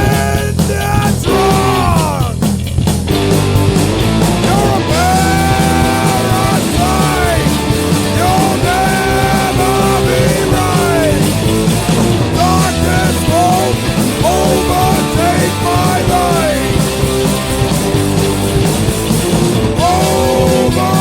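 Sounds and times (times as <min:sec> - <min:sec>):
rock band playing: 0:00.0 - 0:21.0
sliding melody line: 0:03.4 - 0:21.0.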